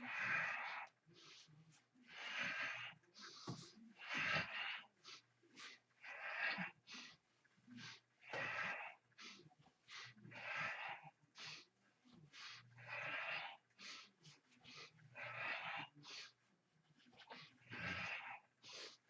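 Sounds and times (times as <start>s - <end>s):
person breathing hard: 0.0s - 16.5s, 17.1s - 19.0s.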